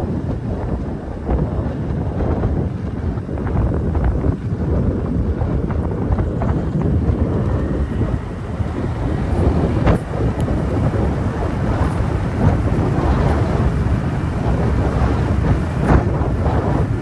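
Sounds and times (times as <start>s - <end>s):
motorbike engine and road noise: 0.0s - 17.0s
wind buffeting microphone: 0.0s - 17.0s.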